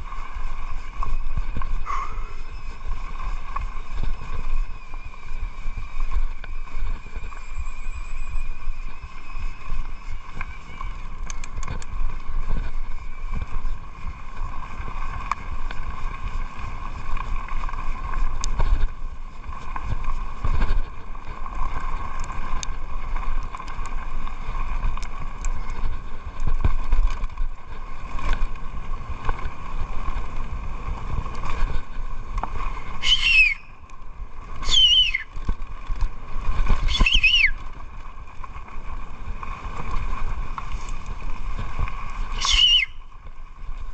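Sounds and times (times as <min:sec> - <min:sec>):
bike knocking and rattling: 0:00.0 - 0:43.9
bike tyre noise: 0:00.0 - 0:43.9
wind rushing over microphone: 0:00.0 - 0:43.9.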